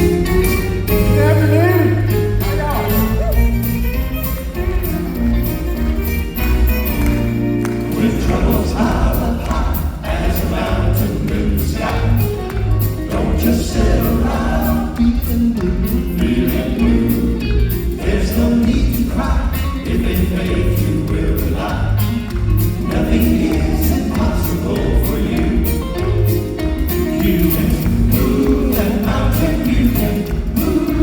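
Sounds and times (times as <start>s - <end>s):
gospel group singing in harmony: 0.0s - 3.4s, 4.3s - 31.0s
band playing a steady beat: 0.0s - 31.0s.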